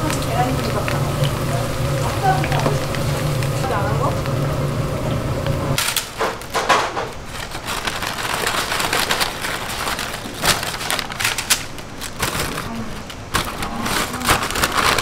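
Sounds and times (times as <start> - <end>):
fried chips crackling and rustling: 0.0 - 15.0.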